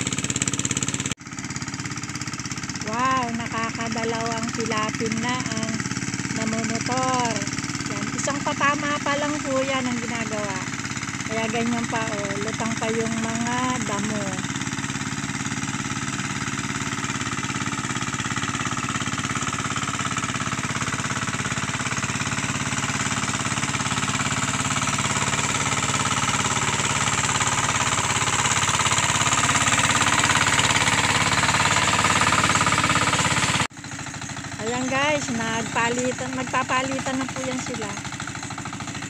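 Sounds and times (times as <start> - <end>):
hand tractor engine chugging: 0.0 - 39.0.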